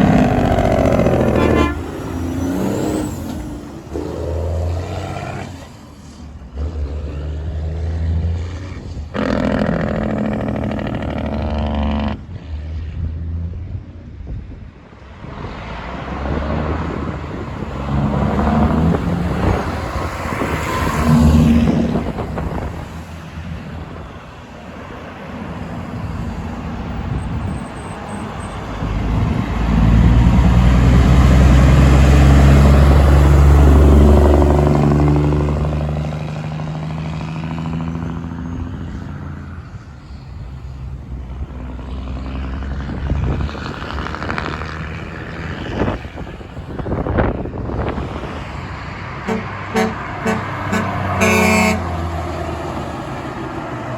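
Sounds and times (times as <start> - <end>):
heavy trucks driving past: 0.0 - 53.9.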